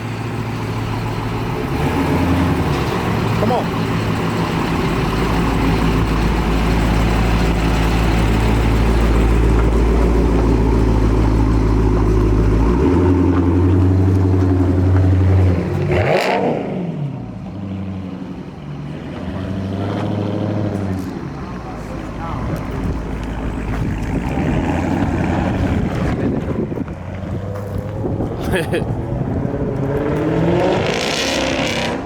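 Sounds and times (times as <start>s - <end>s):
loud car engine with deep exhaust: 0.0s - 32.0s.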